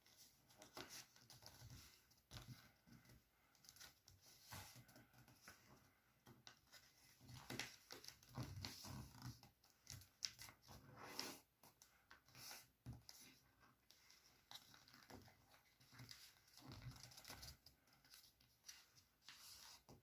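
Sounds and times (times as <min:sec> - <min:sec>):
paper rustling and folding: 0:00.0 - 0:11.4, 0:12.0 - 0:20.0
paper scrapes and soft taps: 0:00.1 - 0:20.0.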